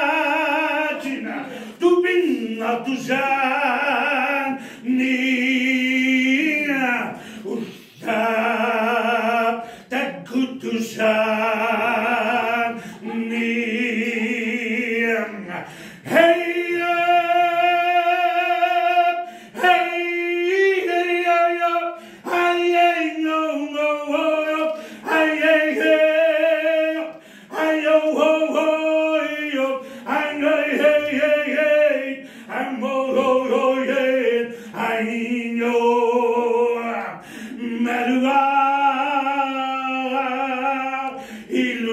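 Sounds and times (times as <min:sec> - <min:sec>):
man singing unaccompanied: 0:00.0 - 0:41.9.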